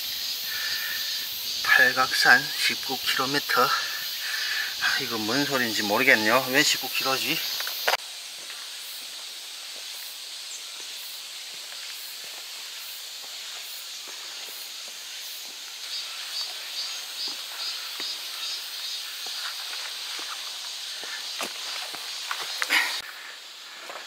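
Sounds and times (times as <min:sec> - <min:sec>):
insects hissing: 0:00.0 - 0:24.0
footsteps on trail: 0:00.5 - 0:24.0.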